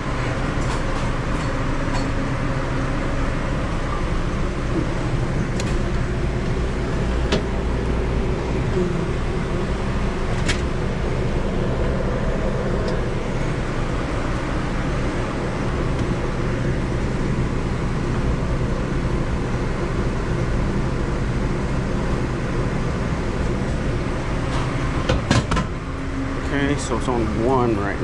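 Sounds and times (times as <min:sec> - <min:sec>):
kitchen machinery humming: 0:00.0 - 0:28.0.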